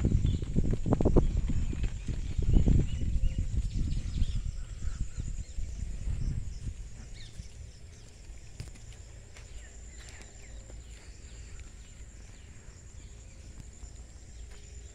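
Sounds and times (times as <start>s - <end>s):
low steady rumble: 0.0s - 14.9s
birds chirping: 1.2s - 14.9s.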